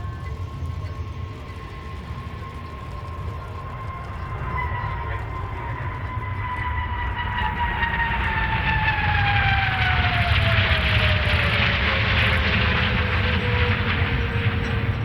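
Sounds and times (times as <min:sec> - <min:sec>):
jet engines whining: 0:00.0 - 0:15.0
low jet rumble: 0:00.0 - 0:15.0.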